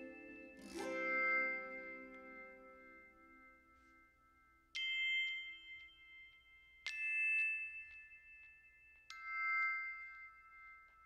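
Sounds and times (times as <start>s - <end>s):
bright bell-like notes: 0.0s - 11.0s.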